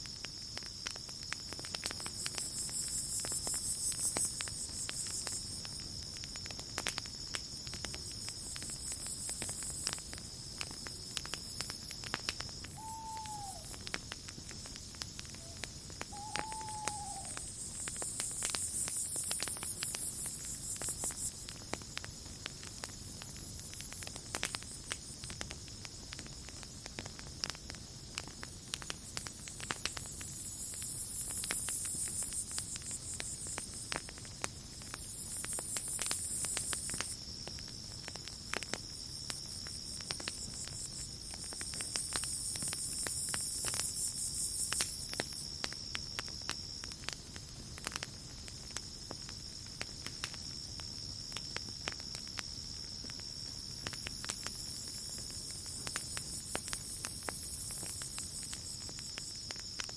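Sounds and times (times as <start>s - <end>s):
campfire crackling and popping: 0.0s - 59.9s
cricket trill: 0.0s - 59.9s.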